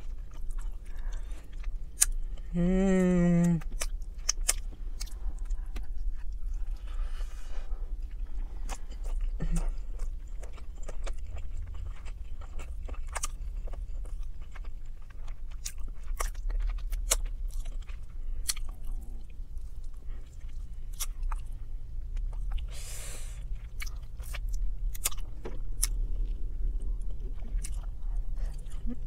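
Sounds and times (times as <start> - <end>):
person chewing chicken: 0.0 - 2.5, 3.2 - 29.0.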